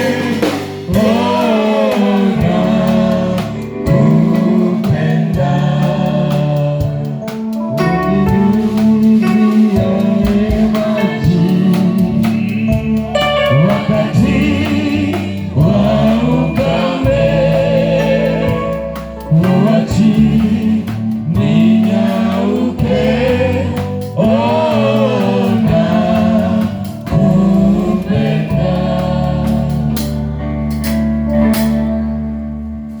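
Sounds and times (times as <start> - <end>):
voices singing with vibrato: 0.0 - 30.2
bass: 0.0 - 33.0
keyboard chords: 0.0 - 33.0.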